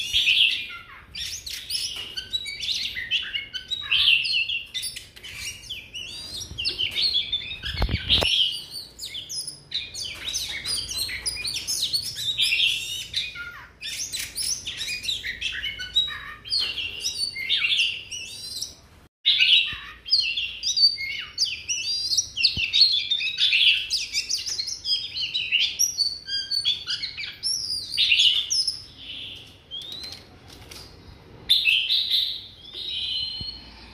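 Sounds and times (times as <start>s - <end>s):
bird singing varied phrases: 0.0s - 30.4s.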